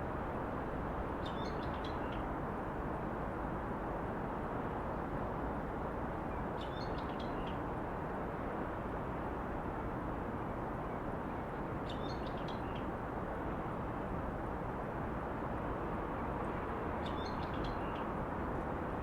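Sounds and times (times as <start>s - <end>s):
distant city traffic hum: 0.0s - 19.0s.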